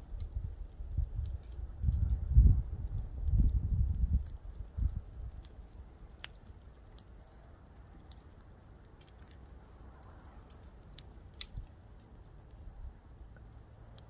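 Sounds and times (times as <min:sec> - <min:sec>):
campfire pops and snaps: 0:00.0 - 0:14.0
low steady rumble: 0:00.0 - 0:14.0.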